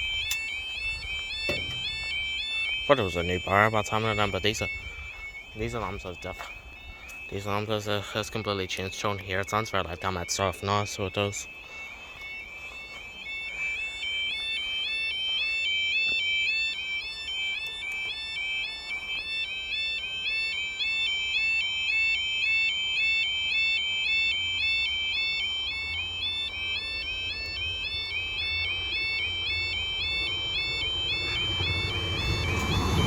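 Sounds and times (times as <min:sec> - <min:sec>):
level crossing two-tone alarm: 0:00.0 - 0:33.0.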